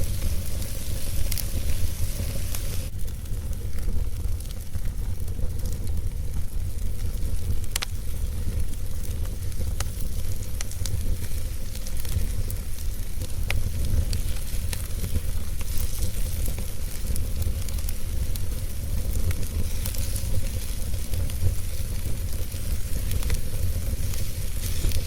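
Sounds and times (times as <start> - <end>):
fire pops and snaps: 0.0 - 25.0
low rumble: 0.0 - 25.0
wood fire crackling: 0.0 - 25.0.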